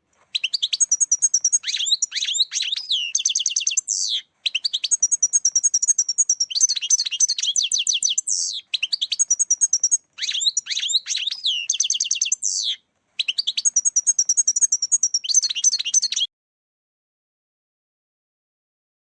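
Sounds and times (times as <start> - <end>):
goldfinch twittering song: 0.3 - 16.3.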